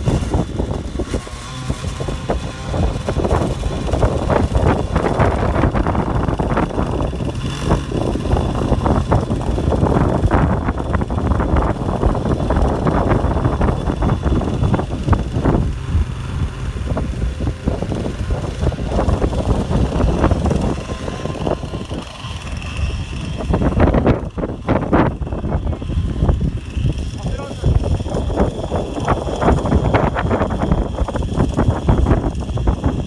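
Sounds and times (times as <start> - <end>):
model plane high whine: 0.0 - 33.0
wind buffeting microphone: 0.0 - 33.0.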